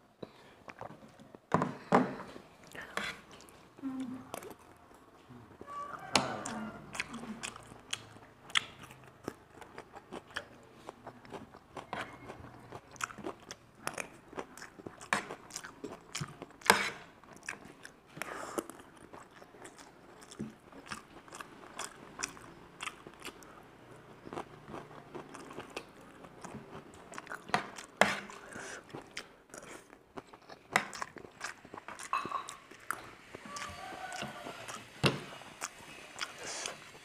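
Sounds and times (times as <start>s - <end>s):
chewing and biting: 6.3s - 36.8s.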